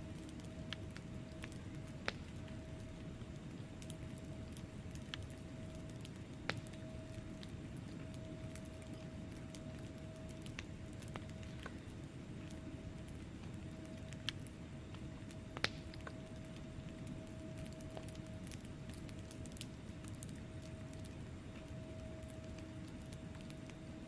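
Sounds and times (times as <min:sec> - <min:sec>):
low rumble of flames: 0:00.0 - 0:24.0
logs crackling and popping: 0:00.1 - 0:24.0.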